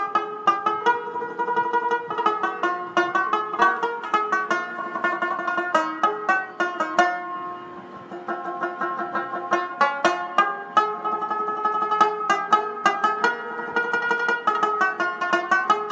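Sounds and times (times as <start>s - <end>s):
plucked string instrumental tune: 0.0s - 15.9s.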